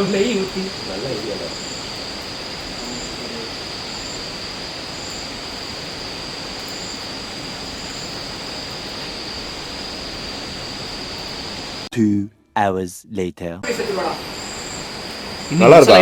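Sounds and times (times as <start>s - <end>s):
falling water rushing: 0.0s - 11.9s, 13.6s - 16.0s
high insect drone: 0.0s - 11.9s, 13.6s - 16.0s.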